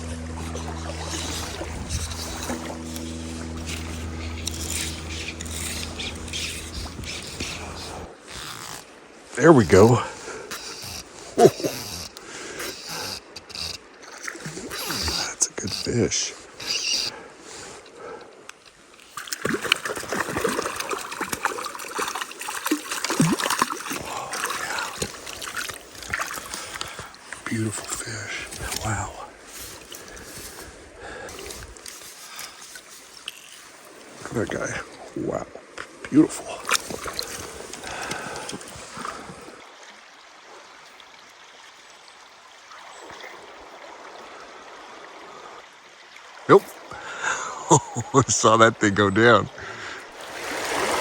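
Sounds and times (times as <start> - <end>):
water splashing and dripping: 0.0 - 9.3, 10.0 - 45.2, 50.1 - 51.0.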